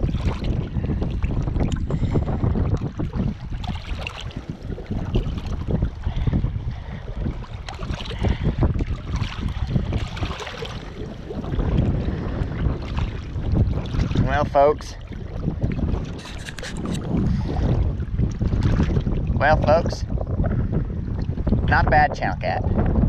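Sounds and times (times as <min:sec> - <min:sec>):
waves lapping on rocky shore: 0:00.0 - 0:19.7
wind buffeting microphone: 0:00.0 - 0:23.0.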